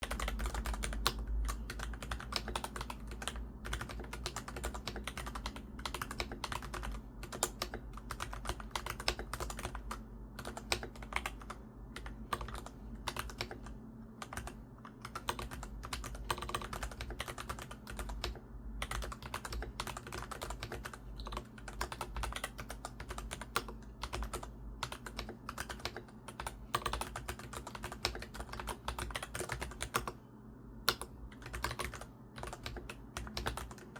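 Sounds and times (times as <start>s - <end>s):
fast typing on mechanical keyboard: 0.0s - 30.2s, 30.9s - 33.9s.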